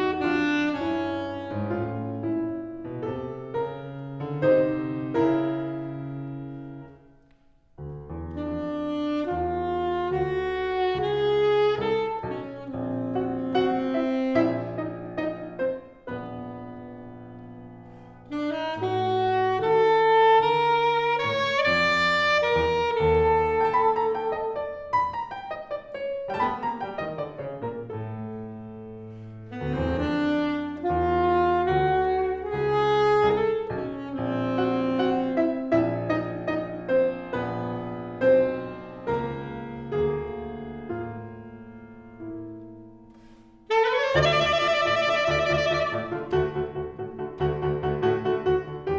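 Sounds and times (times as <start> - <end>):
saxophone: 0.0 - 3.8, 8.2 - 28.4, 29.0 - 40.2, 43.2 - 48.9
piano: 0.0 - 48.9.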